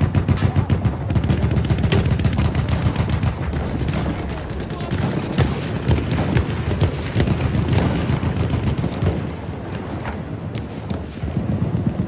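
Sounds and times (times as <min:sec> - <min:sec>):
continuous low rumble: 0:00.0 - 0:12.0
gunshots: 0:00.0 - 0:12.0.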